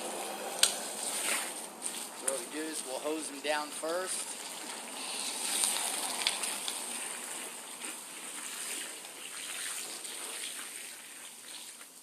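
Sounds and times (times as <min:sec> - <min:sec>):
hose water spraying on rubber mats: 0:00.1 - 0:12.0.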